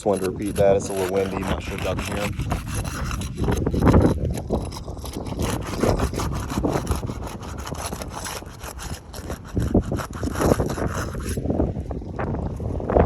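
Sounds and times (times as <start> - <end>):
flat bar scraping under shingles: 0.0 - 11.5
wind buffeting microphone: 0.0 - 13.0.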